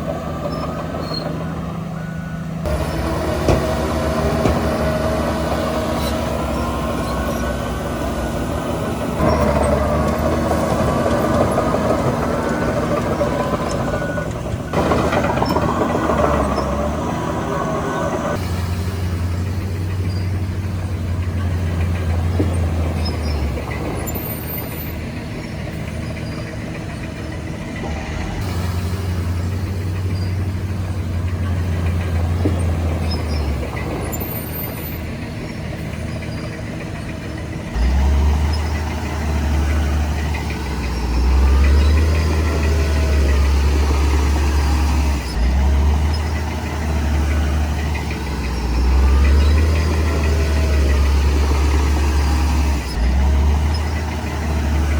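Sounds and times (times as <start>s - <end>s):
heavy machinery diesel engine: 0.0s - 54.9s.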